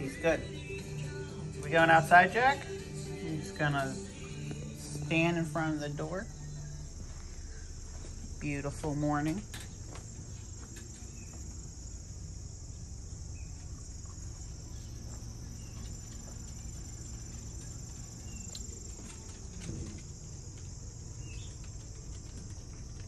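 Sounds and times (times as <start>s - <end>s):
insects chirring: 0.0s - 23.0s
low steady hum: 0.0s - 23.0s.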